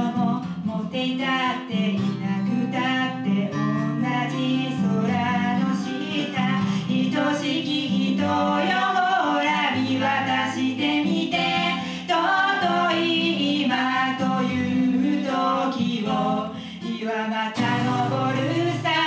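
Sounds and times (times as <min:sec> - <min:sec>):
acoustic guitars strumming: 0:00.0 - 0:19.0
woman singing: 0:00.0 - 0:19.0.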